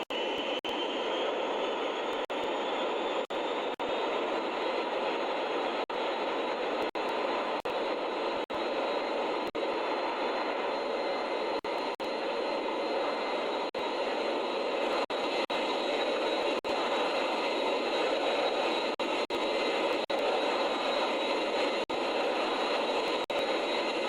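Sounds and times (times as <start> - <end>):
aircraft engine rushing: 0.0 - 24.0
faint high whine: 0.0 - 24.0.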